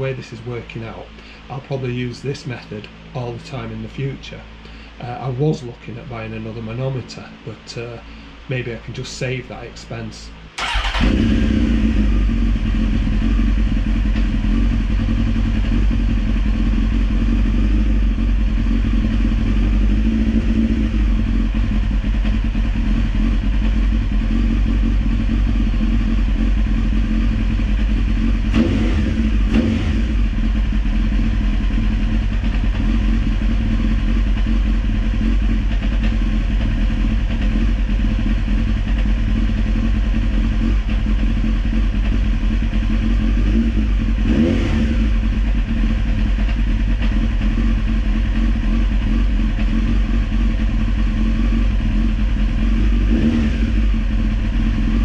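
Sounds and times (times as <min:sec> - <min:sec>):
motorcycle engine idling: 0:10.6 - 0:55.0.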